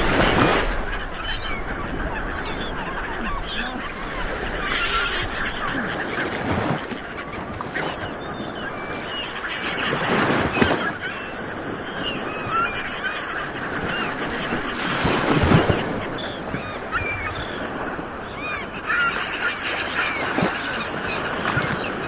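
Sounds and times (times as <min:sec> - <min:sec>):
wave breaking: 0:00.0 - 0:18.6
ocean surf washing: 0:00.0 - 0:22.0.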